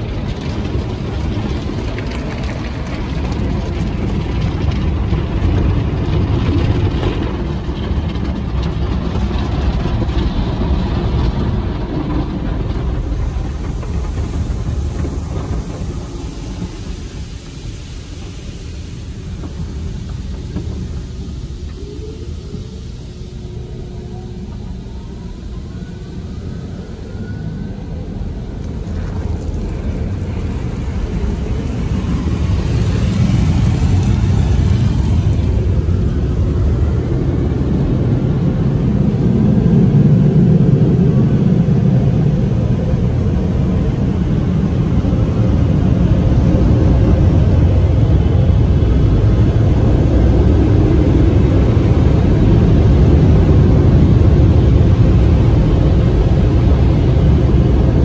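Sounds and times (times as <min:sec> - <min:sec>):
air dryers blowing: 0:00.0 - 0:58.0.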